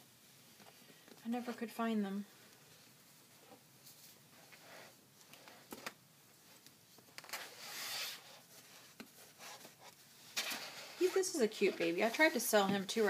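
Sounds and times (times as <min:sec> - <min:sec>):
cloth rustling: 0:02.4 - 0:13.0.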